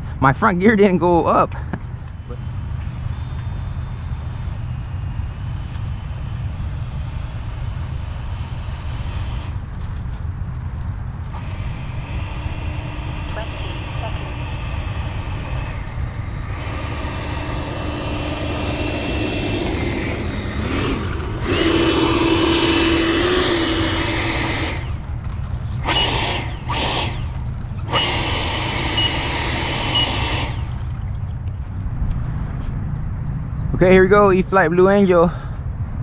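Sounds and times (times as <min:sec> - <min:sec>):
electric ducted fan whine: 0:00.0 - 0:35.2.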